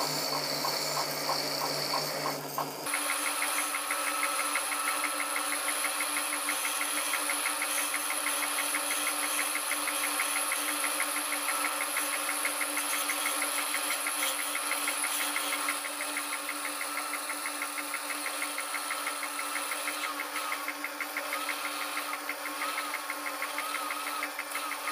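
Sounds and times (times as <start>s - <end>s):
hand tool cutting spinning wood: 0.0s - 24.9s
wood lathe humming and ticking: 0.0s - 24.9s.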